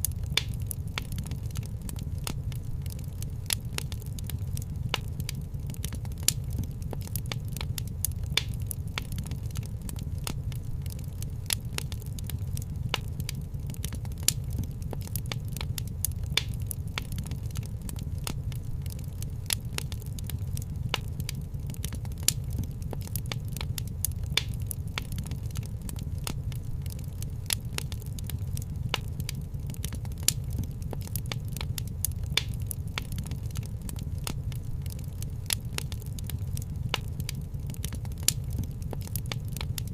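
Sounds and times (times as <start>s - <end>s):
fire pops: 0.0s - 39.9s
wood fire crackling: 0.0s - 39.9s.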